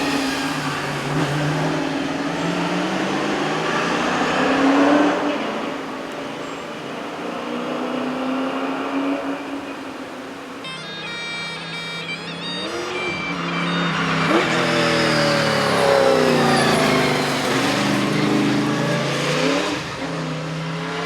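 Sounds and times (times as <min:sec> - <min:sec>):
car engine accelerating hard: 0:00.0 - 0:10.6, 0:12.3 - 0:21.0.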